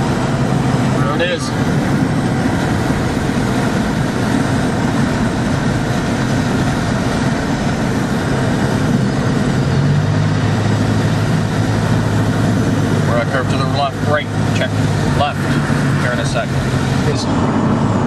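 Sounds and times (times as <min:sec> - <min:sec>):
car engine and tyre drone: 0:00.0 - 0:18.0
road hiss: 0:00.0 - 0:18.0.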